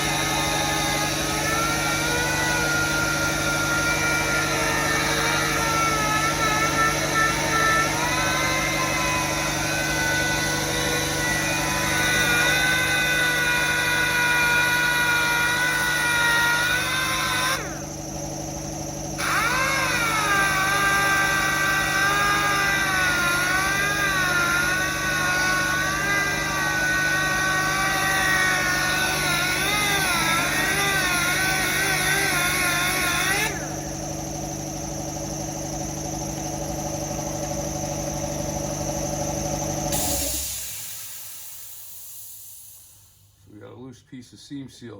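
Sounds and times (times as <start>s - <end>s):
power sander running: 0.0s - 40.7s.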